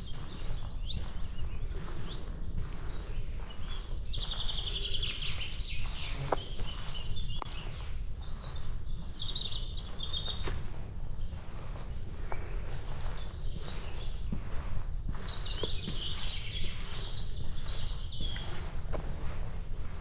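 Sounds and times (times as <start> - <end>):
footsteps: 0.0 - 20.0
songbirds singing: 0.0 - 20.0
wind rumble on microphone: 0.0 - 20.0.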